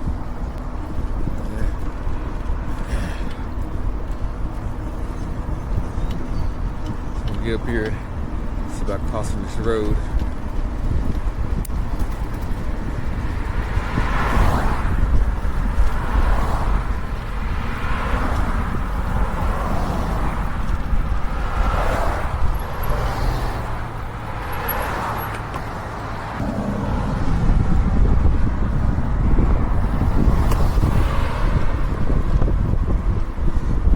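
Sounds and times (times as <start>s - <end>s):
cars passing: 0.0s - 33.9s
wind rumble on microphone: 0.0s - 33.9s.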